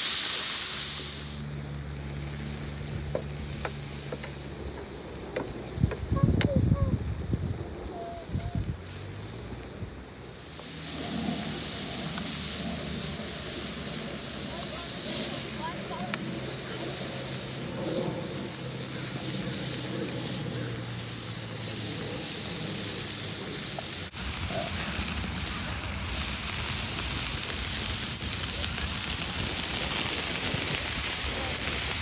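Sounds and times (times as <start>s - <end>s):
juices spitting on griddle: 0.0s - 32.0s
seafood sizzling on a griddle: 0.0s - 32.0s.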